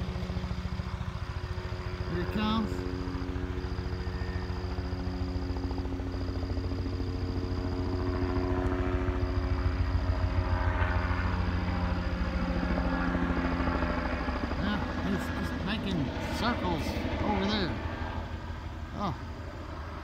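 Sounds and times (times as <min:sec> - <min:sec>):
helicopter engine hum: 0:00.0 - 0:20.0
helicopter rotor beating: 0:00.0 - 0:20.0.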